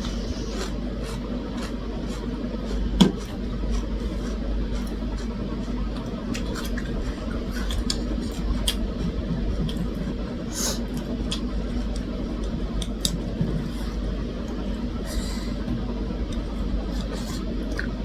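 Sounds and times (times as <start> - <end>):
person chewing: 0.0 - 15.5, 16.2 - 18.0.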